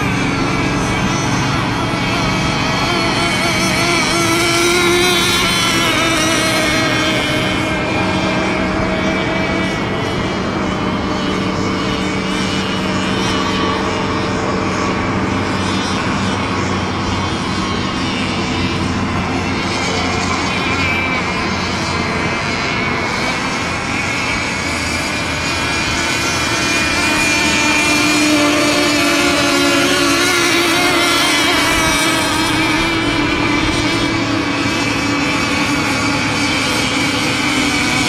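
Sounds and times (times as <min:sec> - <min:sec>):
rc boat engines whining: 0:00.0 - 0:38.0.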